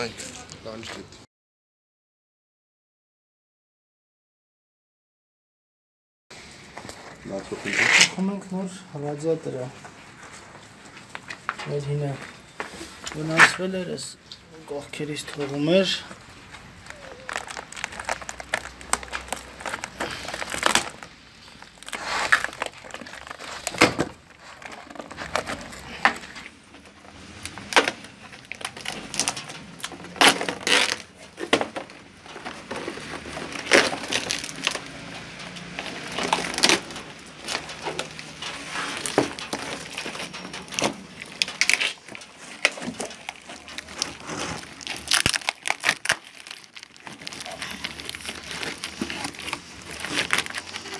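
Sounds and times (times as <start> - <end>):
plastic and cardboard packaging crinkling: 6.4 - 50.9.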